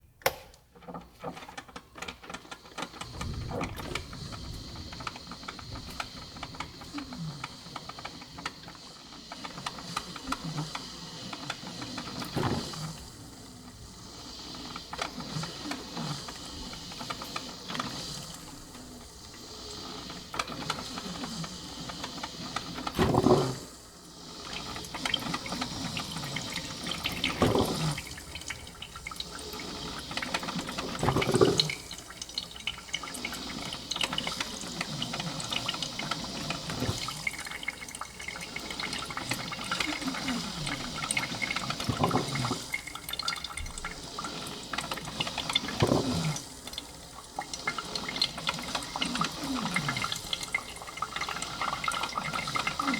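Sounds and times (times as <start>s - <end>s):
coffee pouring into cup: 2.0s - 52.9s.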